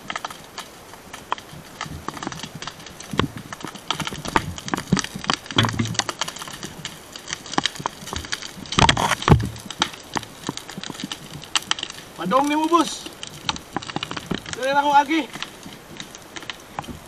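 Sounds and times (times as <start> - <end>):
dry grass burning and crackling: 0.0 - 17.0.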